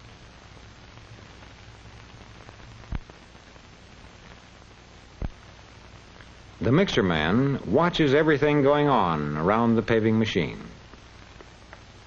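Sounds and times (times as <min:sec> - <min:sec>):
film soundtrack hiss and hum: 0:00.0 - 0:12.0.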